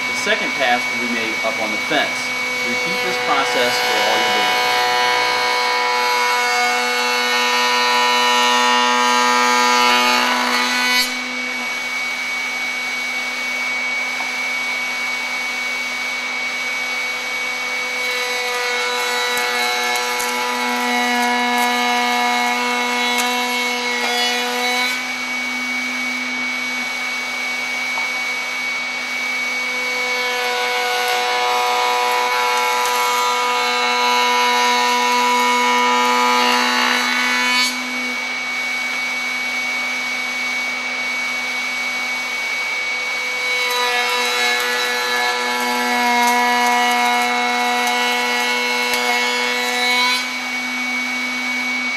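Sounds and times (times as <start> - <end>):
boards rasping through router cut: 0.0 - 51.9
router motor whine: 0.0 - 51.9.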